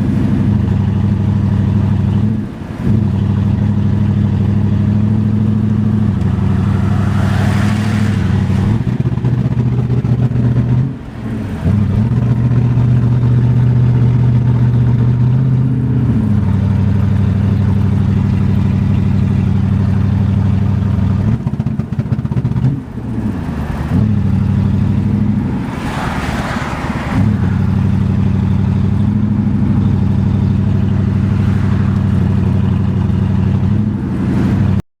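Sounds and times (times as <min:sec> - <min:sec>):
car engine running: 0:00.0 - 0:34.8.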